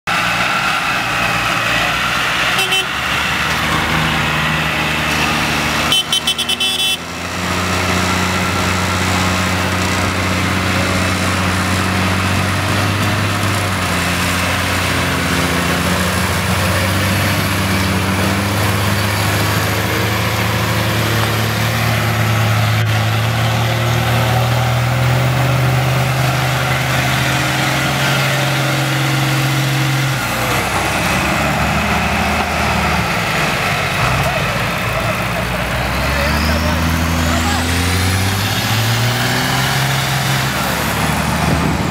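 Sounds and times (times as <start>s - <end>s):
diesel machinery engines running: 0.1s - 41.9s.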